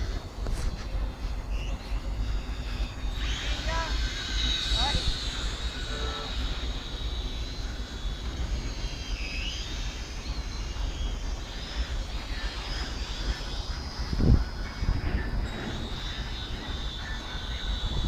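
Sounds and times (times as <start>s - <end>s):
toy drone propellers whining: 0.0s - 18.0s.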